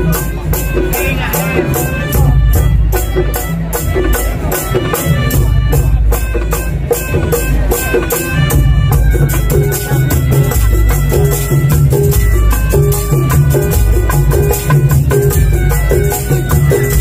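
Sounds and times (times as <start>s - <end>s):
high rattle keeping beat: 0.0s - 17.0s
percussion ensemble over sound system: 0.0s - 17.0s.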